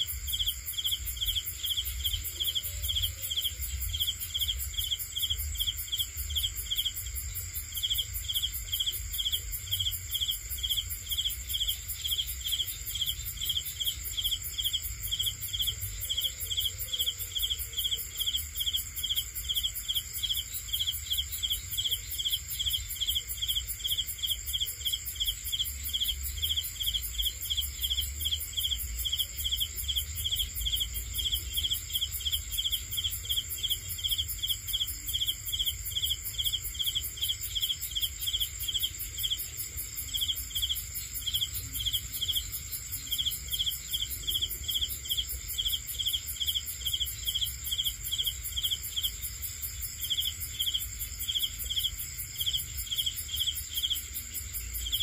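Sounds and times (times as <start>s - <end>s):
crickets chirping: 0.0s - 55.0s
high insect trill: 0.0s - 55.0s.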